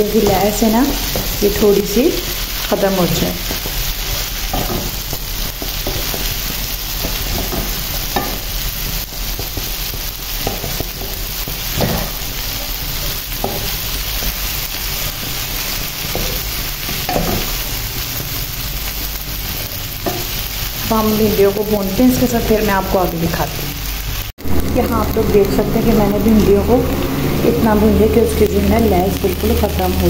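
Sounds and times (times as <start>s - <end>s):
vegetables sizzling in frying pan: 0.0s - 30.0s.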